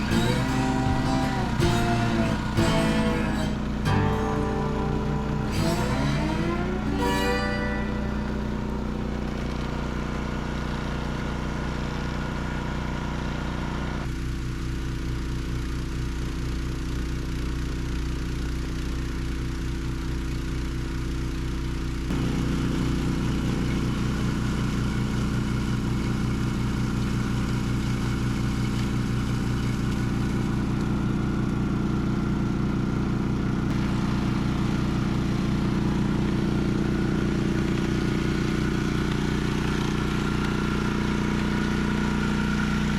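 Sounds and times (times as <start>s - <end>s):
snowblower engine running: 0.0s - 21.3s, 21.9s - 42.9s.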